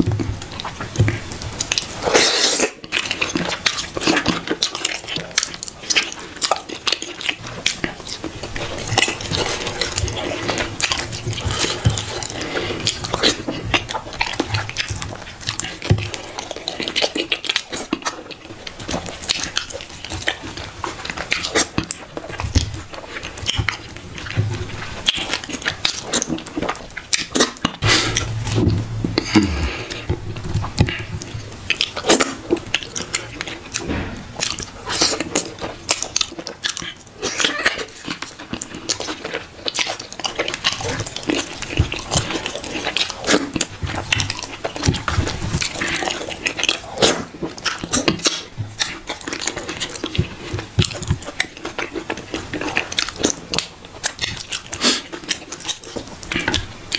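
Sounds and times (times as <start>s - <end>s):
wet chewing and lip-smacking: 0.0s - 56.9s.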